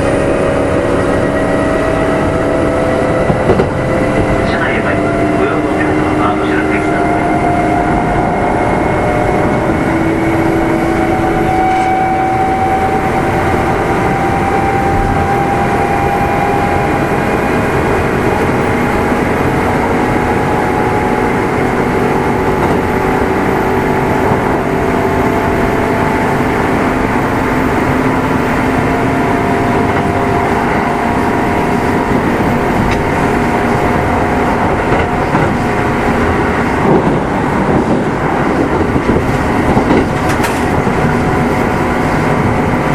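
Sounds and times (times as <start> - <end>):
traction motor whine: 0.0 - 42.9
train wheels rumbling on rail: 0.0 - 42.9.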